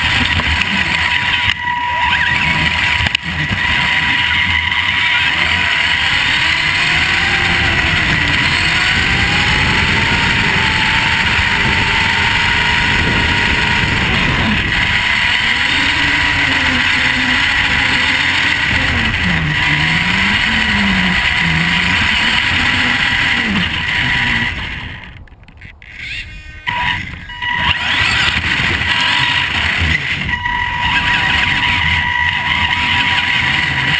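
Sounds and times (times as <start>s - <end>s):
tyres rushing on gravel: 0.0s - 25.4s, 27.6s - 33.9s
electric motor and gear whine: 0.0s - 33.9s.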